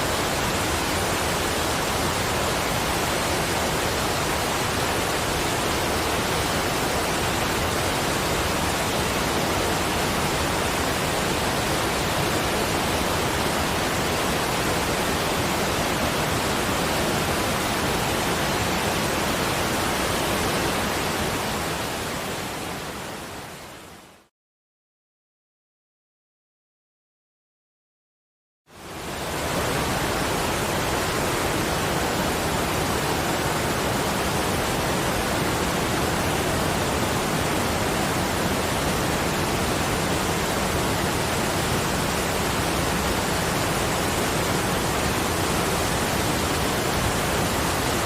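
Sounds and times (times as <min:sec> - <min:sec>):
rushing water: 0:00.0 - 0:24.3, 0:28.7 - 0:48.0.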